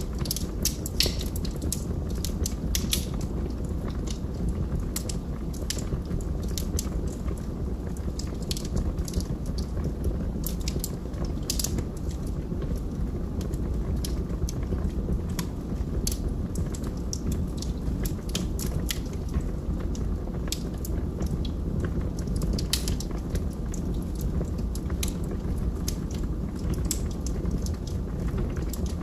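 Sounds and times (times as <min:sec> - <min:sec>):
fire crackling in fireplace: 0:00.0 - 0:29.0.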